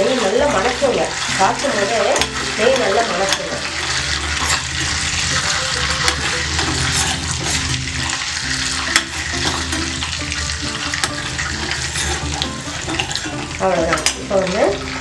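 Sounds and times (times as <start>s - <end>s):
ghee sizzling in a pan: 0.0s - 15.0s.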